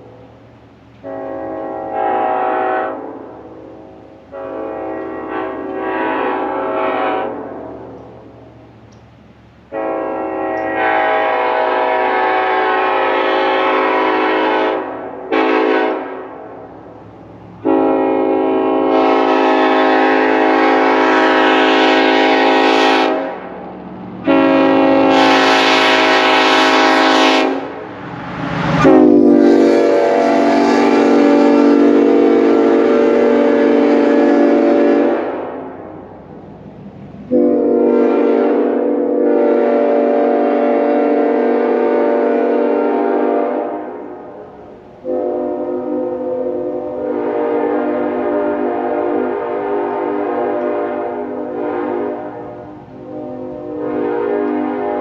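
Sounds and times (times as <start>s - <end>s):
train air horn blasts: 1.0s - 8.6s, 9.7s - 36.4s, 37.2s - 55.0s.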